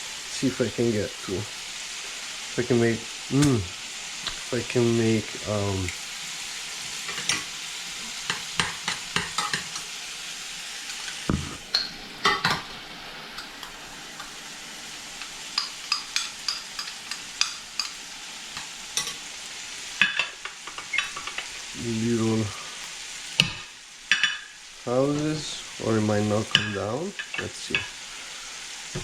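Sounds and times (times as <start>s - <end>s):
frying sizzle: 0.0s - 29.0s.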